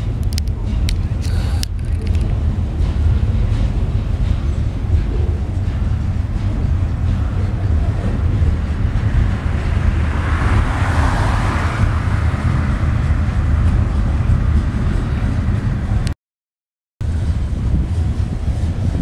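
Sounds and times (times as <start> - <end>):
freight train rumbling past: 0.0 - 16.1, 17.0 - 19.0.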